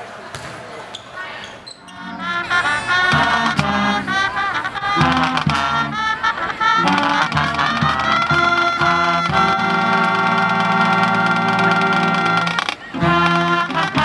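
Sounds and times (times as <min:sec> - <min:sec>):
marching band playing: 0:01.9 - 0:14.0
trumpets and brass: 0:01.9 - 0:14.0.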